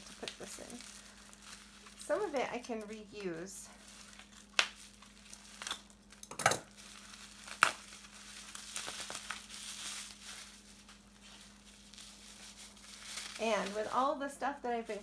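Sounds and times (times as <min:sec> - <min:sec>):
bubble wrap snaps: 0:00.0 - 0:03.0, 0:03.8 - 0:13.9
bubble wrap crinkling: 0:00.0 - 0:15.0.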